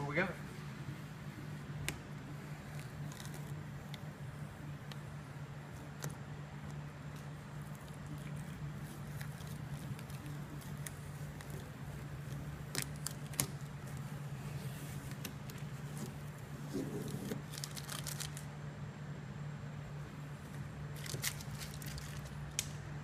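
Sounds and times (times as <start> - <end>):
vinyl stencil peeling and crinkling: 0.0 - 18.5, 20.4 - 22.7
steady low hum: 0.0 - 23.0.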